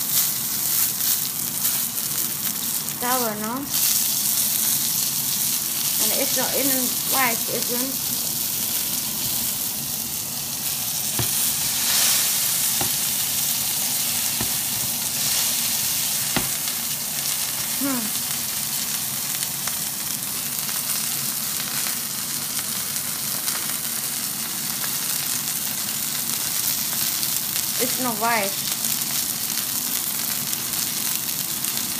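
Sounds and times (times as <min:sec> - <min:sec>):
steak sizzling in a pan: 0:00.0 - 0:31.9.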